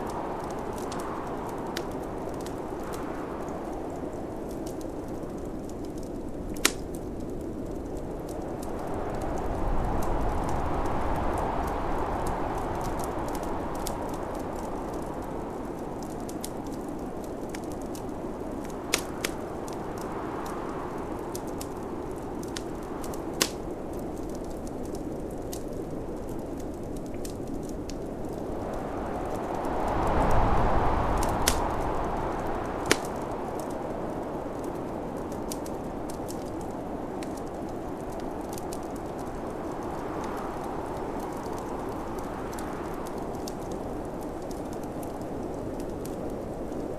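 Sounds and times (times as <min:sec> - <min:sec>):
snowstorm wind rushing: 0:00.0 - 0:05.7, 0:07.5 - 0:23.5, 0:24.1 - 0:46.9
wood fire crackling and popping: 0:00.0 - 0:46.9.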